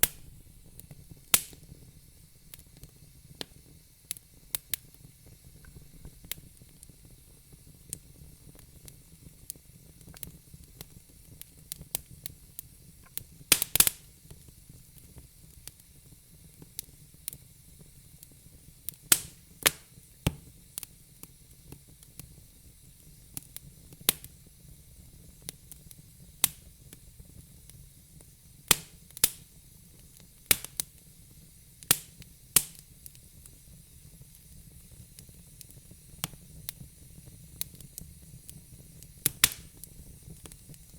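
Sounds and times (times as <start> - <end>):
fire popping: 0.0 - 40.9
low hiss of fire: 0.0 - 40.9
wood fire crackling: 0.0 - 40.9.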